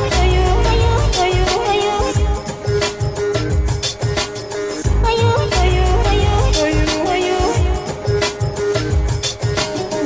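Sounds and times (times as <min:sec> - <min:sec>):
melody with steady beat: 0:00.0 - 0:10.0.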